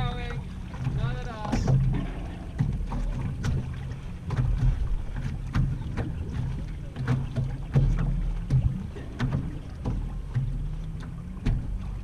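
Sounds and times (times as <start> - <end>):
small waves lapping against hull: 0.0 - 12.0
wind rumble on microphone: 0.0 - 12.0.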